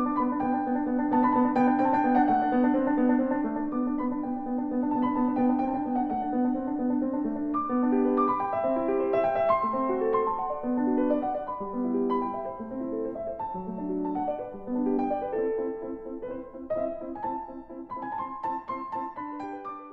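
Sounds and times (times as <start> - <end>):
piano broken chords: 0.0 - 19.9.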